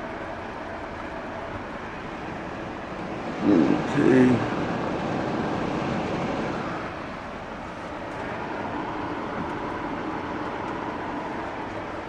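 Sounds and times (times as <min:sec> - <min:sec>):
fans whooshing hum: 0:00.0 - 0:12.0.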